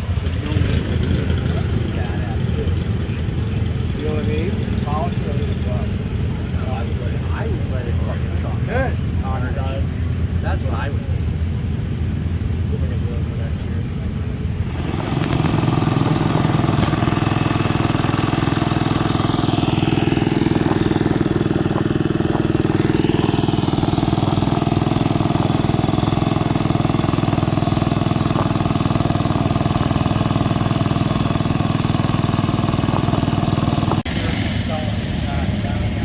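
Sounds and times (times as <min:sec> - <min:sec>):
garden tractor engine running: 0:00.0 - 0:36.0.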